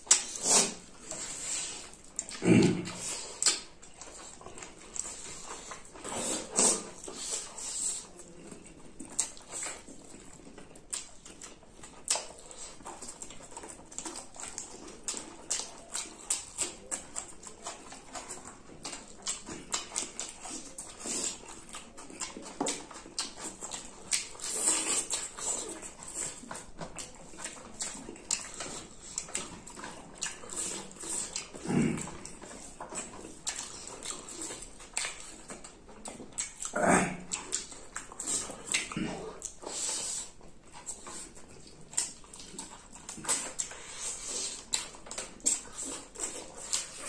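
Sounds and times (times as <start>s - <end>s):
lip-smacking: 0.0s - 47.0s
wet chewing: 0.0s - 47.0s.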